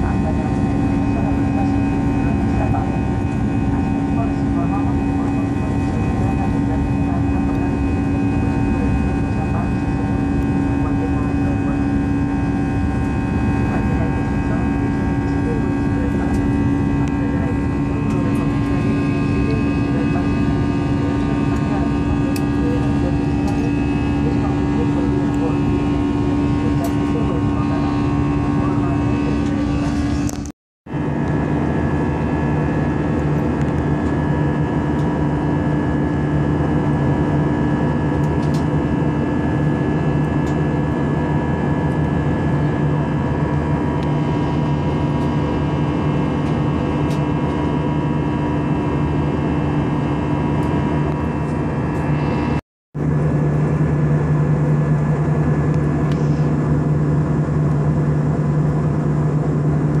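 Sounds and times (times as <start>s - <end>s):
jet engine drone in cabin: 0.0s - 60.0s.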